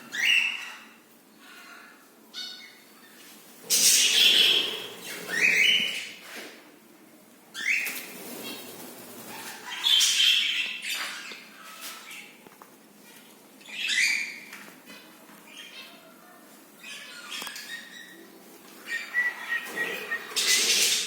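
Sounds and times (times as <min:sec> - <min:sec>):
birds calling harshly: 0:00.0 - 0:06.3, 0:07.6 - 0:12.4, 0:13.6 - 0:16.1, 0:16.8 - 0:21.0.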